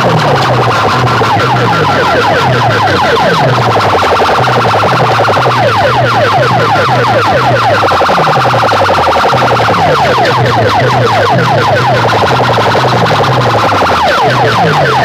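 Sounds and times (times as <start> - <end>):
electronic siren chirps: 0.0 - 15.0
low bass pattern: 0.0 - 15.0.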